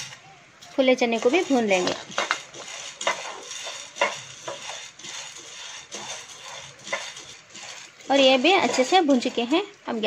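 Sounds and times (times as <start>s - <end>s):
dry grains rattling in a pan: 0.8s - 9.7s.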